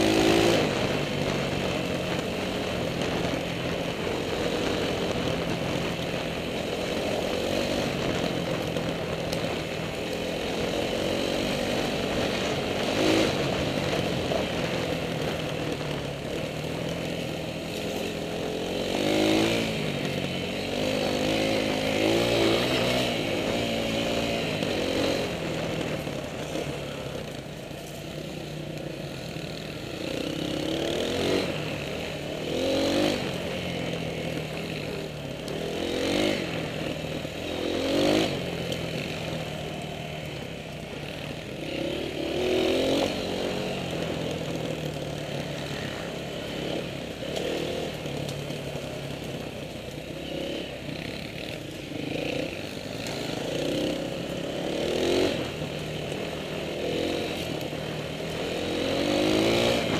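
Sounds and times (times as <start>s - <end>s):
dirt bike engine revving: 0.0s - 15.4s, 16.3s - 26.8s, 29.4s - 40.5s, 41.1s - 49.5s, 50.1s - 59.9s.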